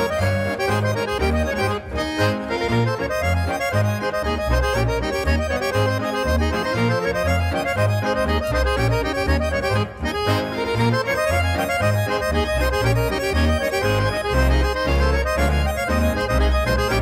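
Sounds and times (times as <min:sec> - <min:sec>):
accordion playing lively melody: 0:00.0 - 0:17.0
steady bass line: 0:00.0 - 0:17.0.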